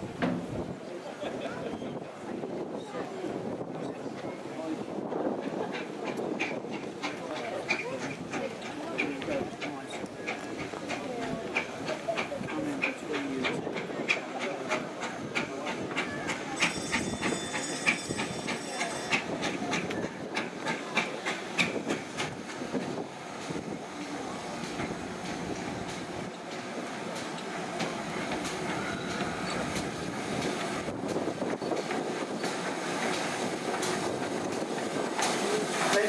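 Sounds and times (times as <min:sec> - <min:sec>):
steam train rumble and hiss: 0:00.0 - 0:36.0
train wheels clicking over rail joints: 0:05.3 - 0:36.0.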